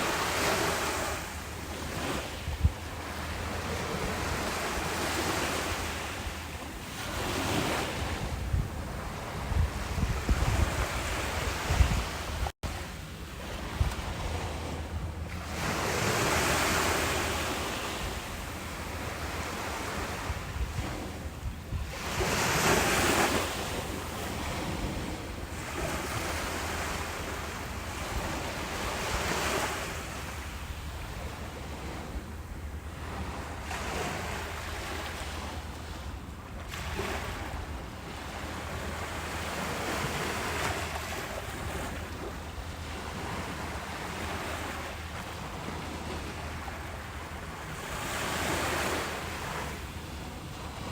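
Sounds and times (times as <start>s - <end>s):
ocean waves breaking: 0.0s - 50.9s
wind buffeting microphone: 0.0s - 50.9s.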